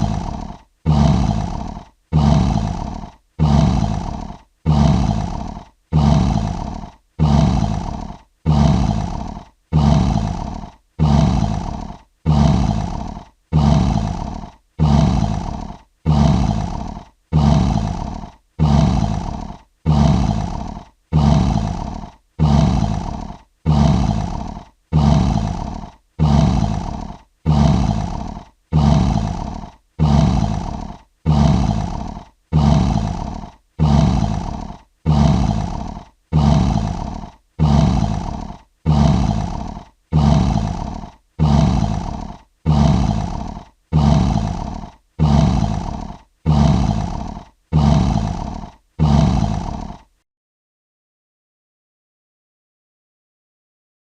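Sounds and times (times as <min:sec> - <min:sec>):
lion roaring: 0:00.0 - 0:50.1.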